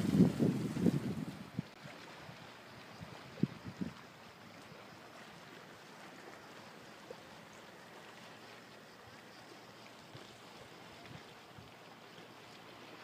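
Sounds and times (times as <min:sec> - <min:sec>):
water washing along a hull: 0:00.0 - 0:13.0.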